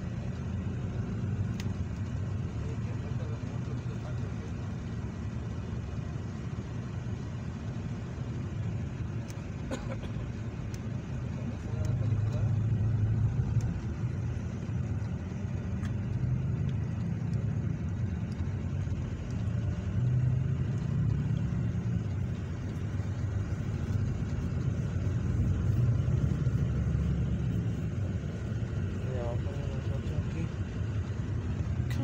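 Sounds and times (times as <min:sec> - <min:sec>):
road vehicle rumbling: 0:00.0 - 0:32.0.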